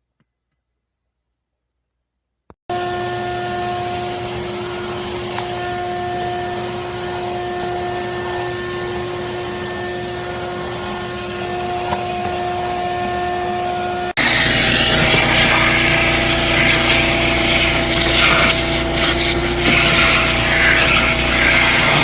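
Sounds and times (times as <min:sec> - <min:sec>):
shop vacuum motor whine: 0:02.7 - 0:22.0.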